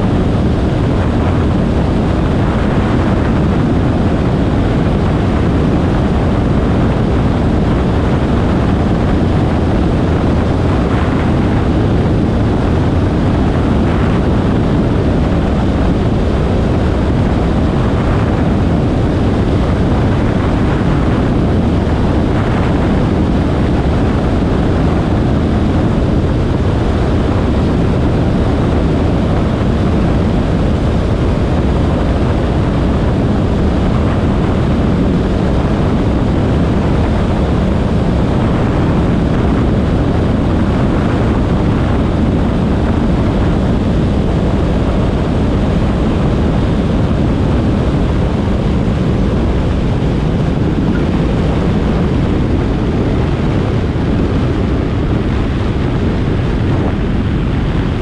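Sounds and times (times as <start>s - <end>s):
airflow rushing over microphone: 0.0s - 58.0s.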